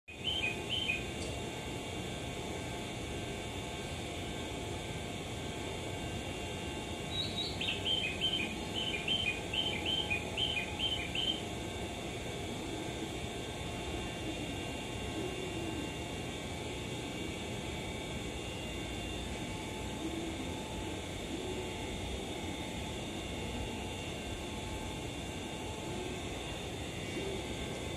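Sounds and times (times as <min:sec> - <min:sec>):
station platform hum: 0:00.1 - 0:27.9.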